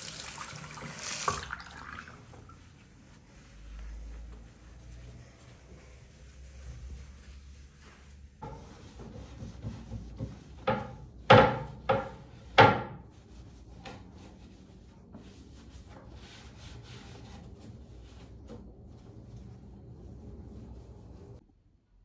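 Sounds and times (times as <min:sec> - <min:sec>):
rubbing: 0:02.5 - 0:21.4.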